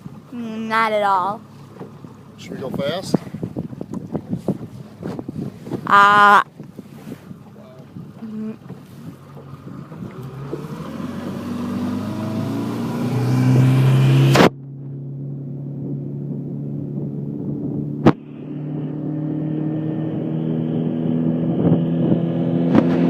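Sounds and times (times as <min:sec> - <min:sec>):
motorboat engine: 0:00.0 - 0:23.0.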